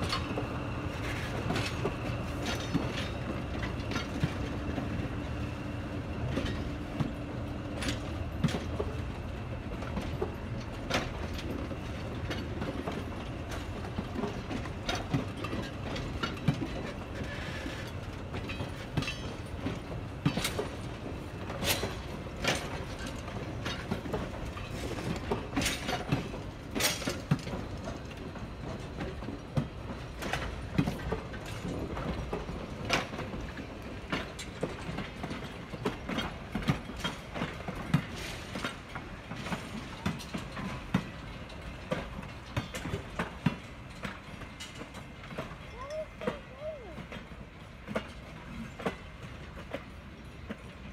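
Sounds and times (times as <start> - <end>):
train wheels rumbling on track: 0.0 - 50.9.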